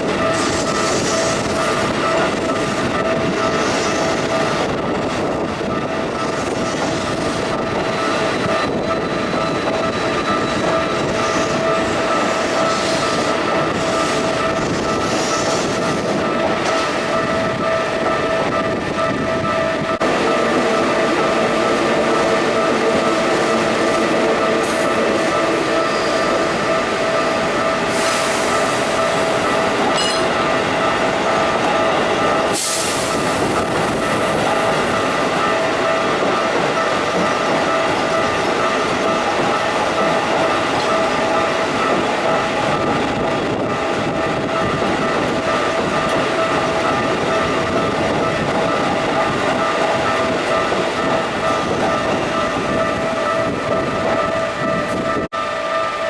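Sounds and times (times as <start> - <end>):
crossing warning bell ringing: 0.0 - 56.0
electric train passing: 0.0 - 56.0.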